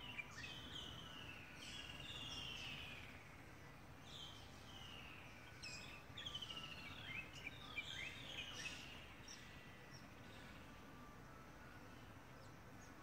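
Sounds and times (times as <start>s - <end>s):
birds whistling and trilling: 0.0s - 13.0s
low outdoor hiss: 0.0s - 13.0s.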